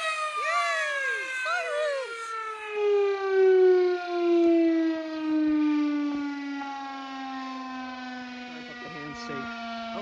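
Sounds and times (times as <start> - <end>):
siren winding down: 0.0 - 10.0.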